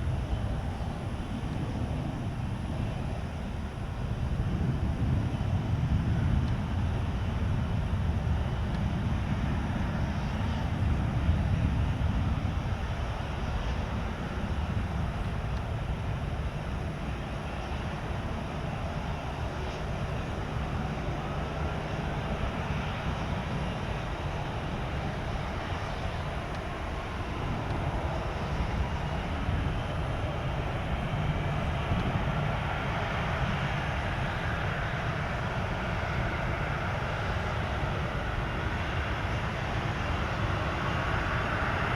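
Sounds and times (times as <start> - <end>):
jet engines low rumble: 0.0 - 41.9.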